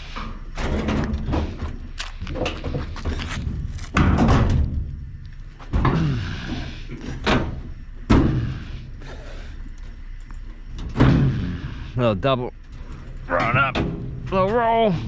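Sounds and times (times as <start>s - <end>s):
heavy metal bangs and thuds: 0.0s - 8.9s, 10.8s - 11.9s, 12.8s - 14.9s.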